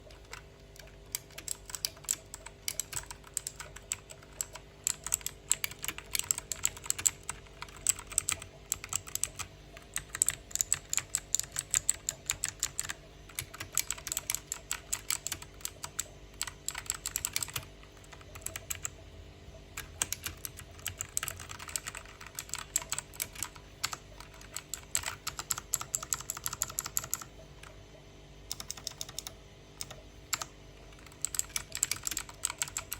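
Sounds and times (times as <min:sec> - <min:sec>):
clicky keyboard typing: 0:00.0 - 0:19.0, 0:19.8 - 0:27.8, 0:28.5 - 0:32.9.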